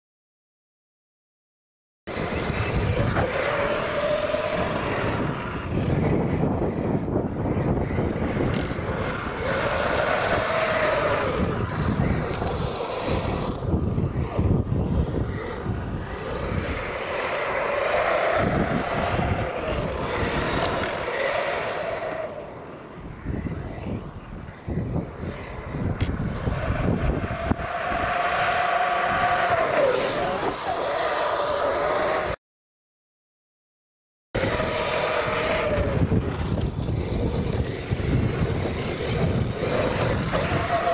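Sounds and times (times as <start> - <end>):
tyres rushing on sand: 2.1 - 6.4, 7.4 - 22.8, 25.3 - 32.4, 34.4 - 40.9
rc truck motor whine: 2.1 - 32.4, 34.4 - 40.9.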